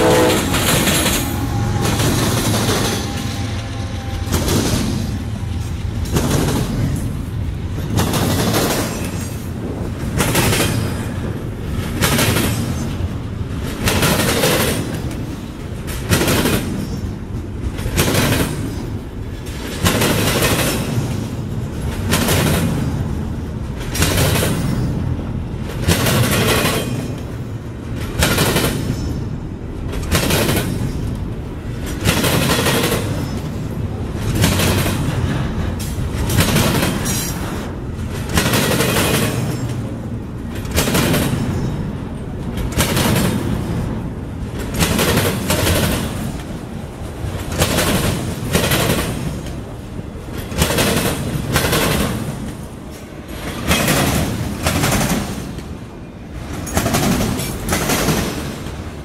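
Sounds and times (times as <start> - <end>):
train wheels rumbling on rail: 0.0 - 59.0
wheels clacking on rail joints: 0.0 - 59.0.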